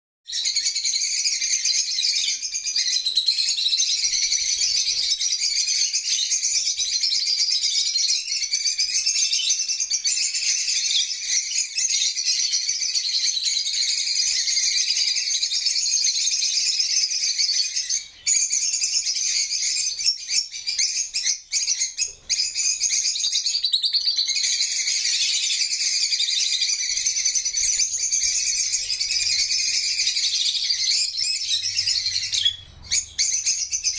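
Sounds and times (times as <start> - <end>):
parrots chirping and chattering: 0.4 - 33.9.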